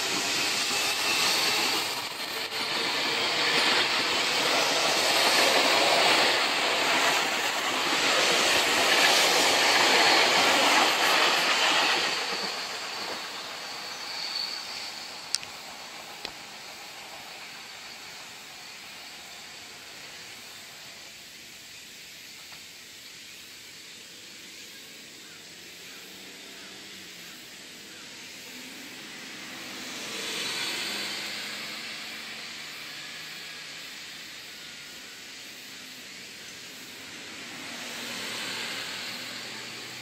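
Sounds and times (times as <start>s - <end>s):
broad hissing noise: 0.0s - 40.0s
electric train rumbling: 0.0s - 40.0s
steady hiss: 0.0s - 40.0s.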